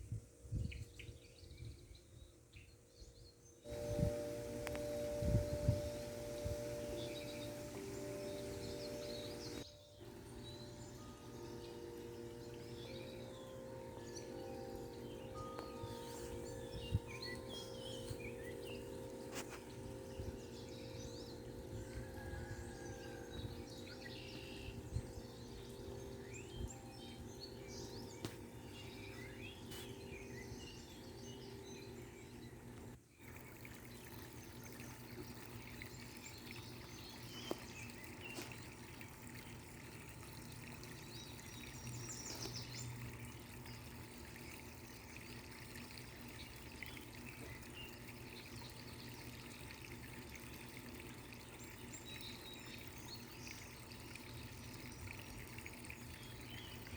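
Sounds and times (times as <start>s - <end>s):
birds chirping: 3.6s - 56.9s
water pouring and trickling: 3.7s - 56.9s.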